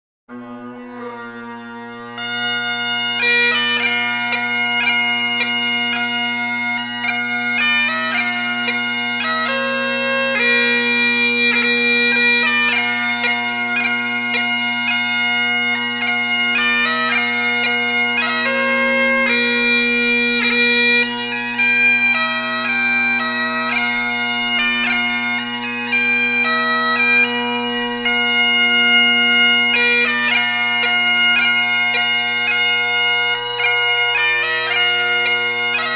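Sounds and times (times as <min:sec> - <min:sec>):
bagpipe music: 0:00.3 - 0:35.9.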